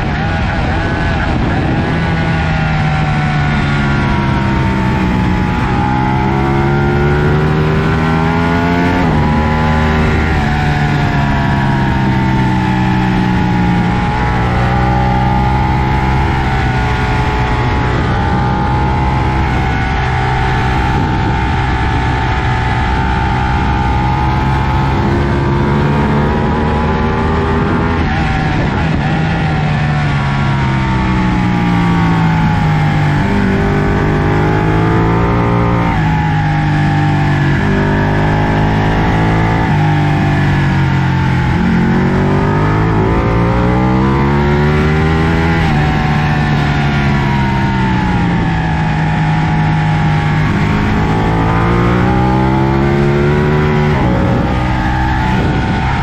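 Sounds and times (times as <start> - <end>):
motorcycle engine revving: 0.0 - 56.0
wind rushing: 0.0 - 56.0.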